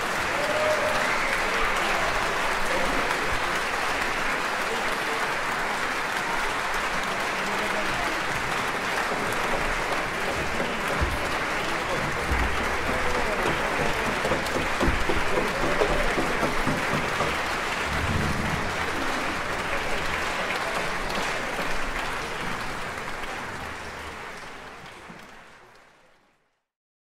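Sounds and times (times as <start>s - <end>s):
audience applauding: 0.0s - 26.5s.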